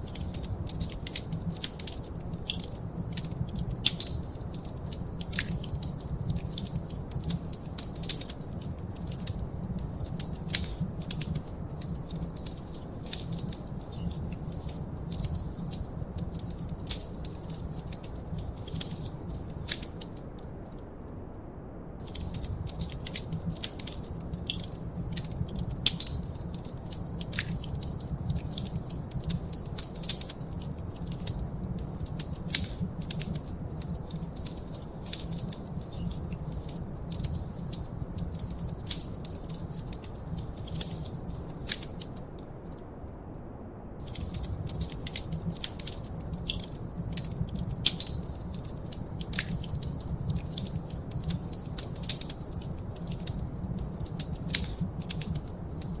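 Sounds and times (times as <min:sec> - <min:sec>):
fire crackling and popping: 0:00.0 - 0:21.2, 0:22.0 - 0:43.0, 0:44.0 - 0:56.0.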